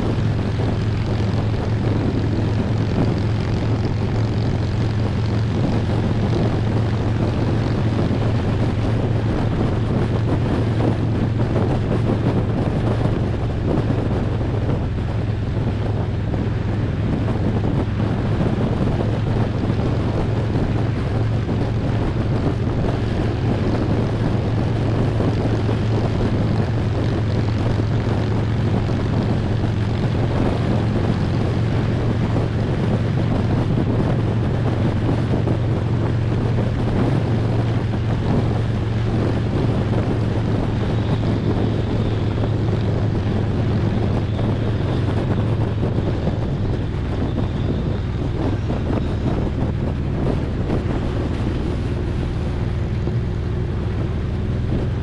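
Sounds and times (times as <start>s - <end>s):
motorcycle engine cruising: 0.0s - 55.0s
wind rushing over microphone: 0.0s - 55.0s.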